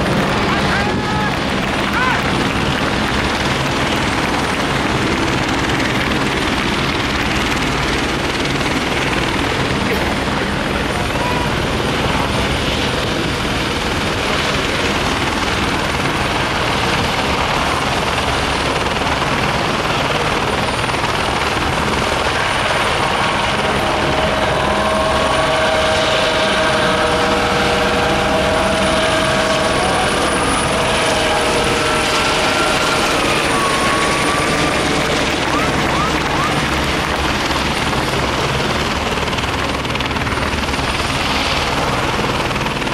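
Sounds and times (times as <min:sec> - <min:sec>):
helicopter rotor and engine noise: 0:00.0 - 0:42.9
wavering helicopter whine: 0:00.0 - 0:42.9.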